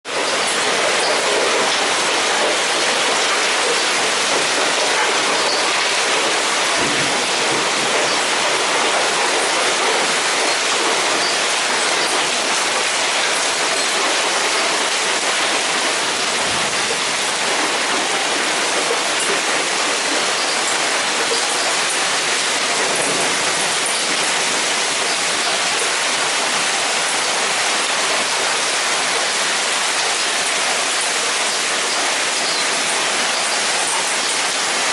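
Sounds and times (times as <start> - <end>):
heavy rain pelting down: 0.0 - 34.9.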